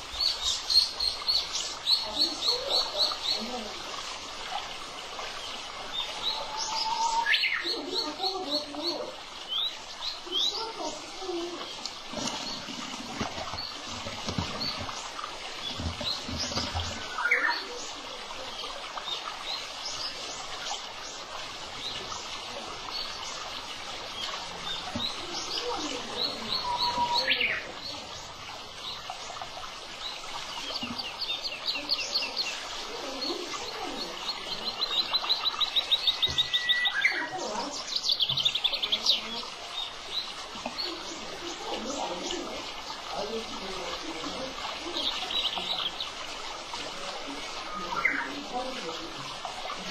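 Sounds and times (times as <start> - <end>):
birds singing and chirping: 0.0 - 49.9.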